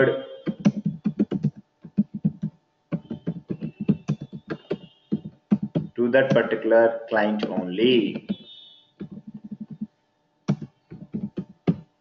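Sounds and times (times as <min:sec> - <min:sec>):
computer keyboard typing: 0:00.4 - 0:06.5, 0:07.4 - 0:09.9, 0:10.5 - 0:11.9.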